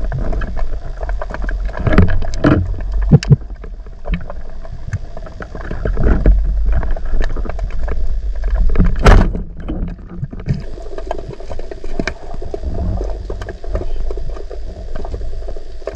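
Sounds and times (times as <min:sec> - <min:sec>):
muffled underwater rumble: 0:00.0 - 0:15.9.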